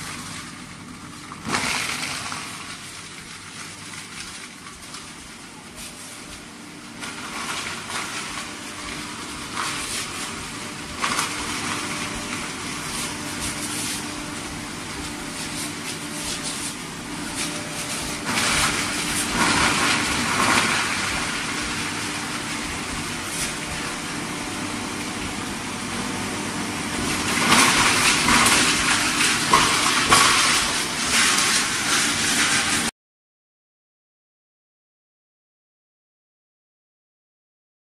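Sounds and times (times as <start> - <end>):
foam shredding: 0.0 - 32.9
motor hum: 0.0 - 32.9.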